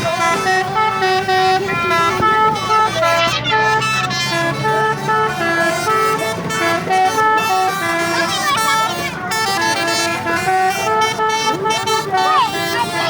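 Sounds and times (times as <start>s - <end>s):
multi-tone musical horn: 0.0s - 13.0s.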